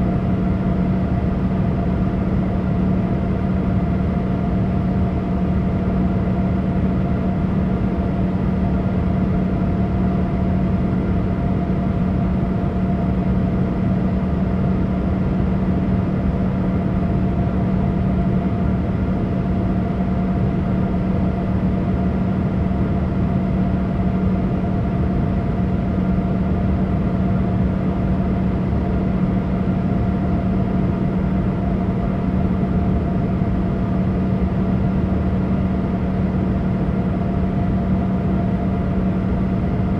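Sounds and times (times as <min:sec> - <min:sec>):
aircraft cabin engine rush: 0:00.0 - 0:39.9
constant low hum: 0:00.0 - 0:39.9.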